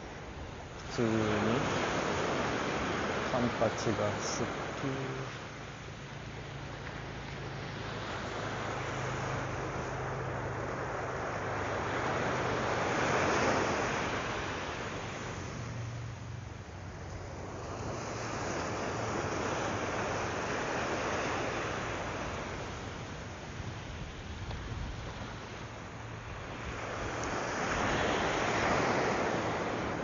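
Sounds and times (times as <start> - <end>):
surf washing up a sandy beach: 0.0 - 30.0.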